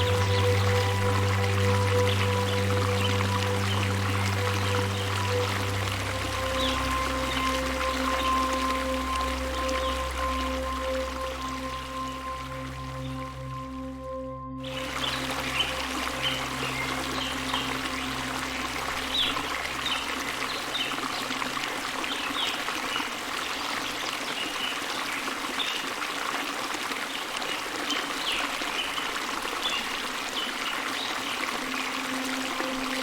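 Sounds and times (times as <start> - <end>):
soft ambient music: 0.0 - 23.9, 29.9 - 33.0
stream trickling and bubbling: 0.0 - 33.0.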